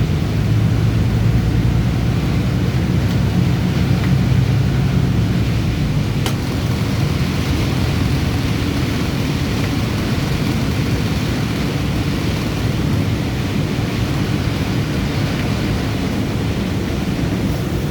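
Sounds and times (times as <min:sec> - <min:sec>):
bus engine drone: 0:00.0 - 0:17.9
road noise: 0:00.0 - 0:17.9.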